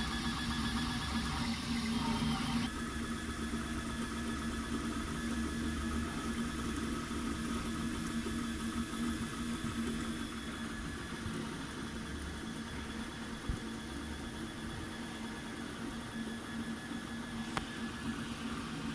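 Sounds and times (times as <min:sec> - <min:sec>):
three d printer humming: 0:00.0 - 0:18.9.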